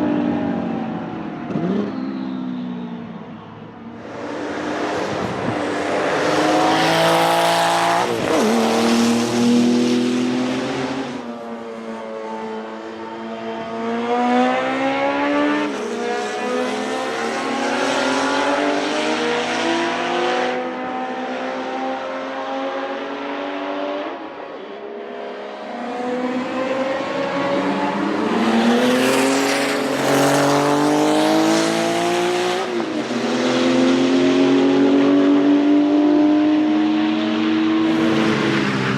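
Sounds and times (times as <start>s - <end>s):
racing engine at full throttle: 0.0s - 38.9s.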